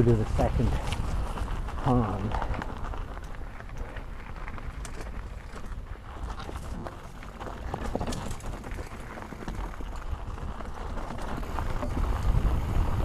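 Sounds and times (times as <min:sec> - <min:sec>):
bike tyres crunching on dirt and rock: 0:00.0 - 0:13.0.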